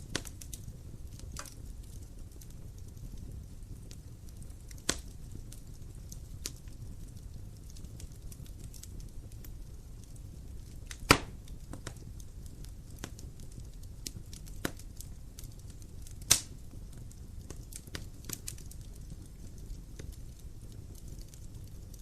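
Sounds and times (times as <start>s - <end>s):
fire rumble: 0.0s - 22.0s
loud fire pops: 0.0s - 22.0s
wood fire crackling: 0.0s - 22.0s.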